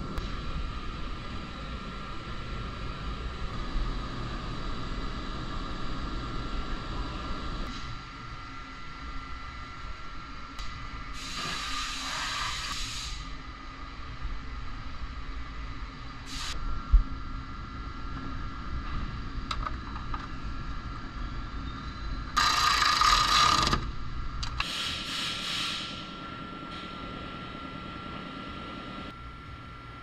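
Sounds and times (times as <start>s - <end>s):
steady high hum: 0.0s - 30.0s.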